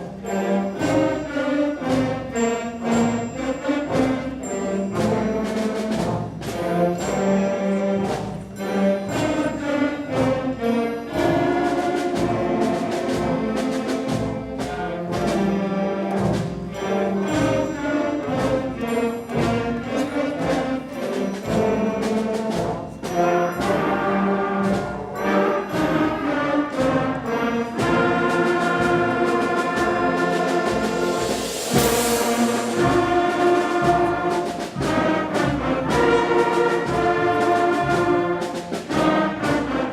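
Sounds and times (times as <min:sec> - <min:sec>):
concert band playing: 0:00.0 - 0:39.9
steady drum beat: 0:00.0 - 0:39.9.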